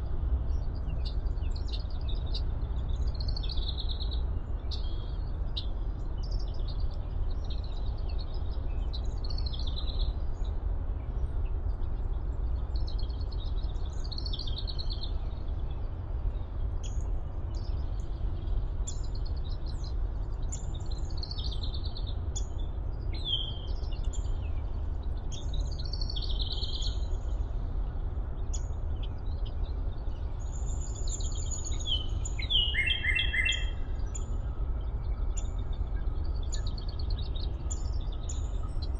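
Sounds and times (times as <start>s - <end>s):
steady low rumble: 0.0s - 38.9s
woodland birds singing: 0.0s - 38.9s.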